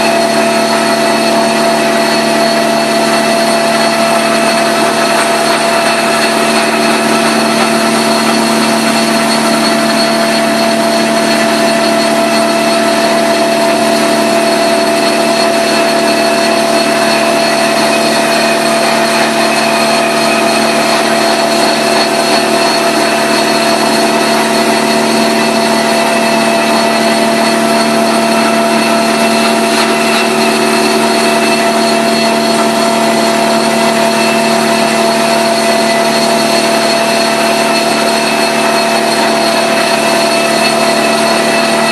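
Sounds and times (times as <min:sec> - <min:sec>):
carpet extractor droning: 0:00.0 - 0:41.9.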